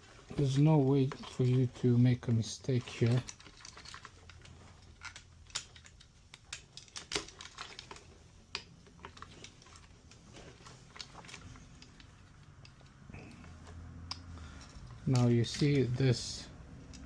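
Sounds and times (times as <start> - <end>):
plastic wire connectors clicking: 2.6 - 17.0.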